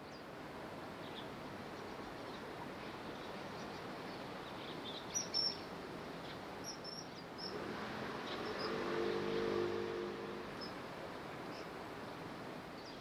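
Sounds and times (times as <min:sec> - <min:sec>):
low steady hum: 0:00.0 - 0:13.0
steady background noise: 0:00.0 - 0:13.0.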